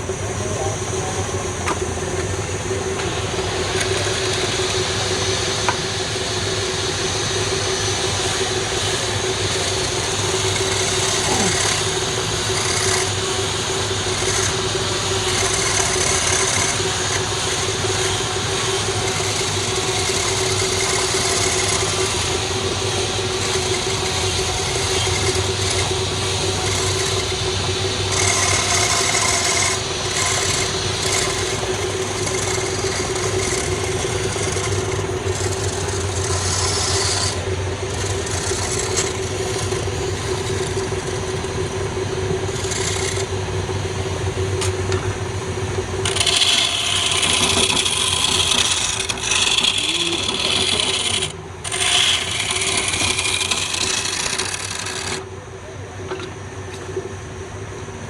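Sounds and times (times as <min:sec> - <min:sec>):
turning tool cutting wood: 0:00.0 - 0:55.3
wood lathe motor hum: 0:00.0 - 0:57.1.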